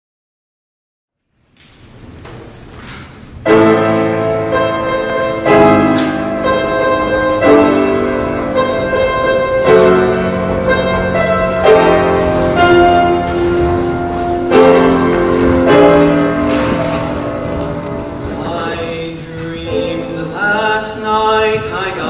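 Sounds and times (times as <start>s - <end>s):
faint hall noise: 1.2s - 22.0s
piano chords: 3.4s - 22.0s.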